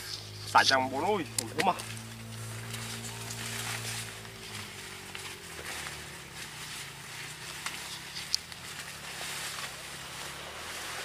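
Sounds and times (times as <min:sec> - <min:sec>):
dry corn leaves rustling: 0:00.0 - 0:11.0
low steady hum: 0:00.0 - 0:11.0.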